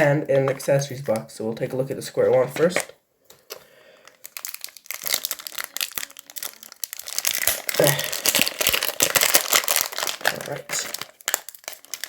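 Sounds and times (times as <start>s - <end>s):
packaging crinkling and rustling: 2.2s - 12.0s.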